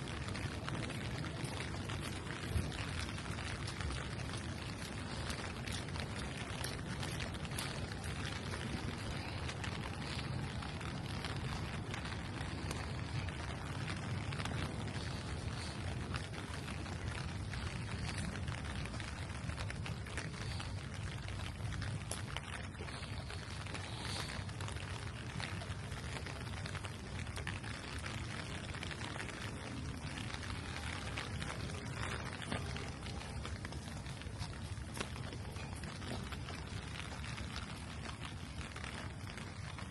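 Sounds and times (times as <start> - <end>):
low steady rumble: 0.0 - 39.9
raindrops ticking sharply: 0.0 - 39.9
steady rain hiss: 0.0 - 39.9.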